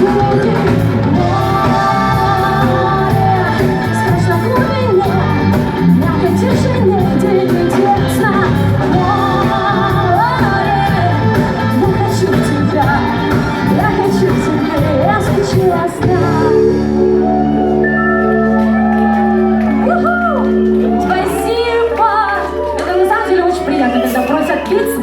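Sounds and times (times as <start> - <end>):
person singing: 0.0 - 24.0
drums: 0.0 - 25.0
live pop band playing: 0.0 - 25.0.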